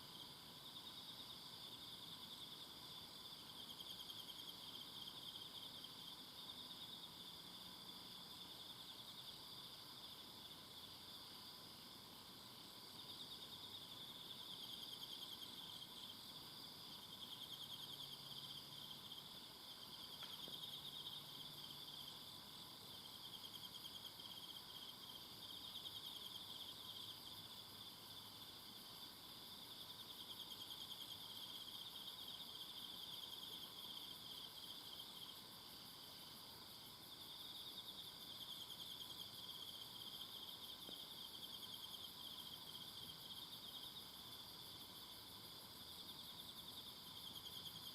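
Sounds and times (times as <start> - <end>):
background insects: 0.0 - 47.9
insects pulsing trills: 0.0 - 47.9.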